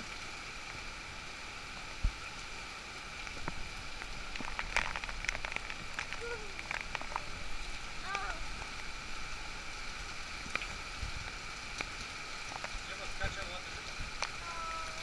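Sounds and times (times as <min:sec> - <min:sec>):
heavy rain on boat deck: 0:00.0 - 0:15.0
water splashing and dripping: 0:00.0 - 0:15.0.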